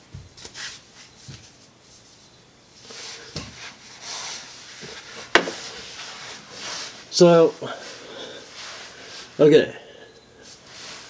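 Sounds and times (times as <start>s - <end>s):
rustling and scraping: 0.0s - 9.6s, 10.4s - 11.0s.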